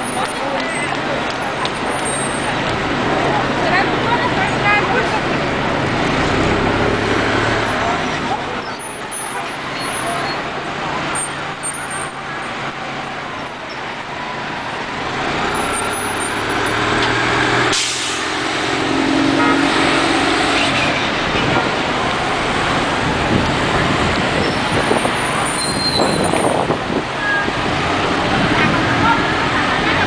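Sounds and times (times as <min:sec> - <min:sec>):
bus engine driving away: 0:00.0 - 0:30.0
street traffic noise: 0:00.0 - 0:30.0.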